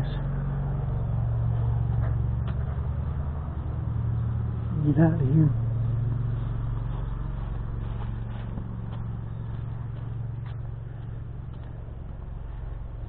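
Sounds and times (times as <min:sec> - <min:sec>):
lawn mower engine running: 0:00.3 - 0:13.0.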